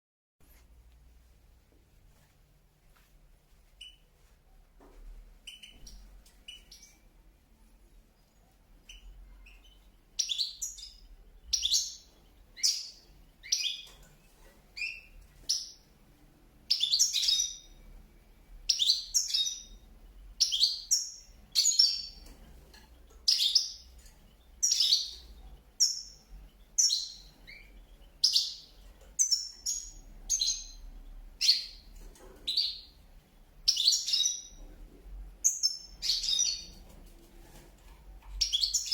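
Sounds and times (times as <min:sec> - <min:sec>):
cage birds chirping: 0:02.0 - 0:38.9.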